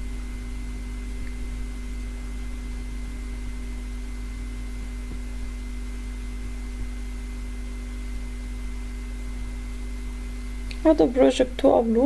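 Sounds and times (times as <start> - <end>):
constant hiss: 0.0 - 12.0
electrical hum: 0.0 - 12.0.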